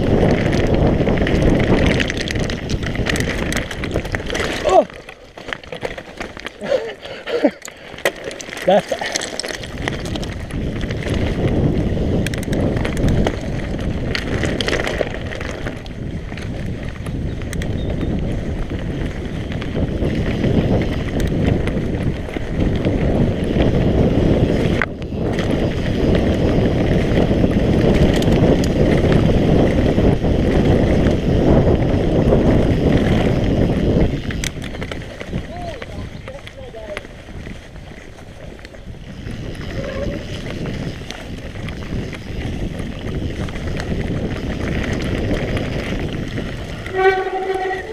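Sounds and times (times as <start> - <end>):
bike knocks and rattles: 0.0 - 6.8, 7.4 - 47.9
tyres rushing on dirt: 0.0 - 47.9
wind buffeting microphone: 0.0 - 47.9.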